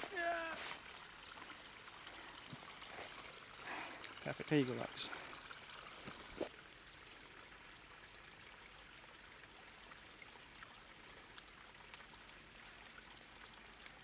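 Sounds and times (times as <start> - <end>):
faint running water: 0.0 - 14.0.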